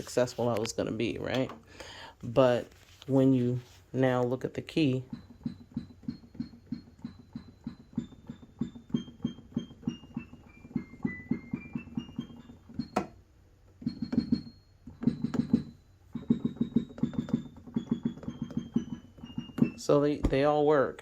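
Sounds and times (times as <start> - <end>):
keyboard notes: 4.0 - 21.0.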